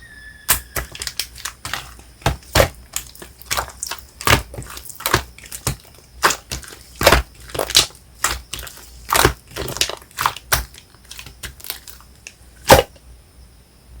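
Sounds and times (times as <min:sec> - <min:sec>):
hands squishing slime: 0:00.5 - 0:12.9.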